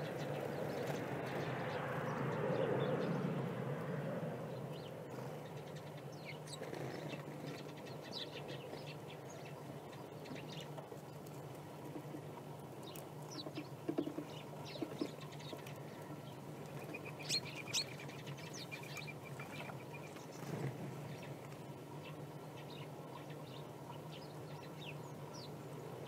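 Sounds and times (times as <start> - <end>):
low steady hum: 0.0 - 26.0
songbirds chirping: 0.0 - 26.0.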